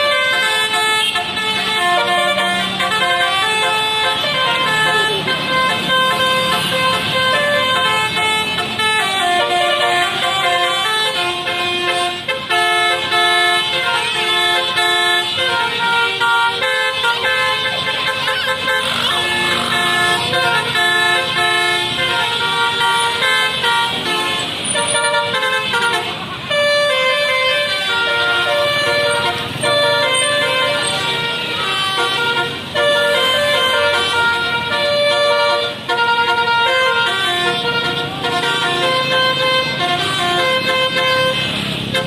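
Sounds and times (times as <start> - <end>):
musical bus horn melody: 0.0 - 42.0.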